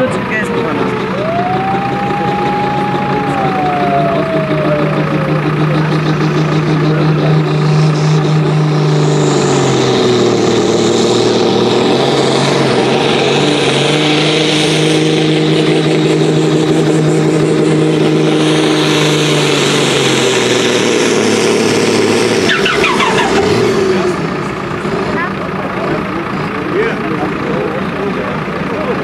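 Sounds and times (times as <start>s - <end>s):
diesel tractor engine under load: 0.0s - 29.0s.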